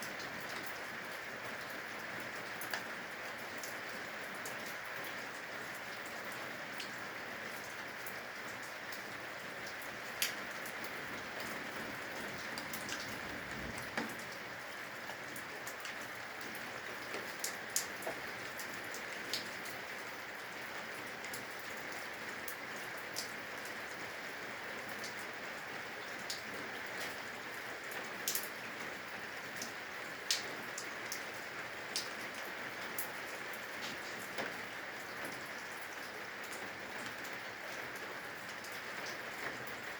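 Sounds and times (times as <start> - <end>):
water drops dripping from eaves: 0.0 - 24.0, 24.8 - 39.8
steady rain hiss: 0.0 - 39.9.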